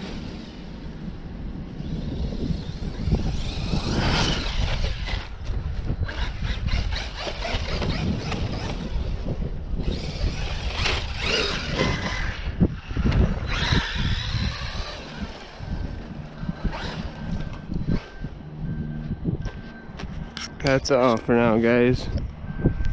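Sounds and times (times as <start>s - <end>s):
electric motor whining: 0.0s - 22.9s
wind on microphone: 0.0s - 22.9s.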